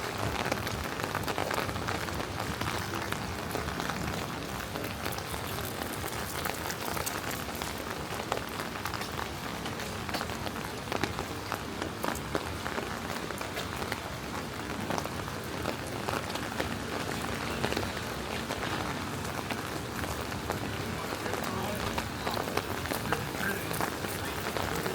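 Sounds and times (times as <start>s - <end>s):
rain splashing on hard surfaces: 0.0s - 24.9s.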